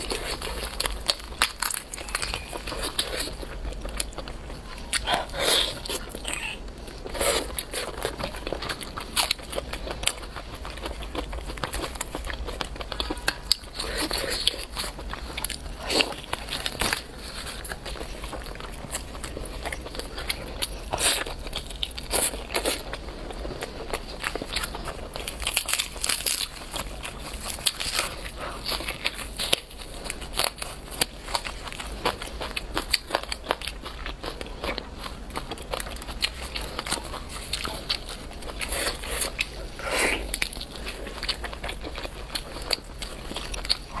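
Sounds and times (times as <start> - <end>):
person biting and chewing: 0.0 - 44.0.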